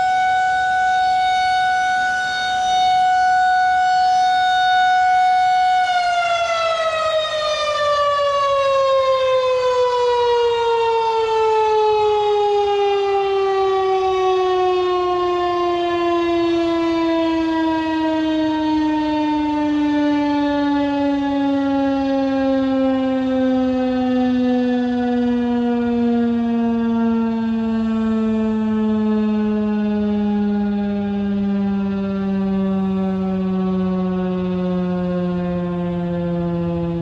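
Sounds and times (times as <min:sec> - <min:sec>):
warning siren winding down: 0:00.0 - 0:37.0.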